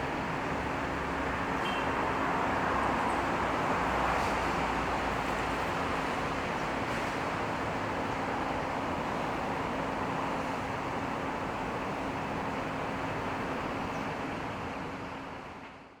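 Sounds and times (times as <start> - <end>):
city traffic noise: 0.0 - 16.0.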